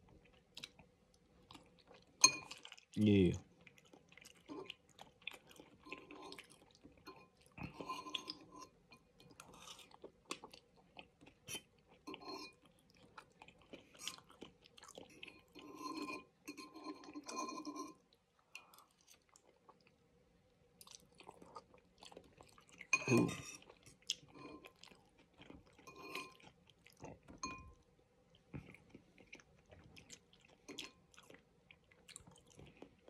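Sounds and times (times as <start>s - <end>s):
chewing noodles: 0.0s - 20.0s, 20.7s - 33.0s.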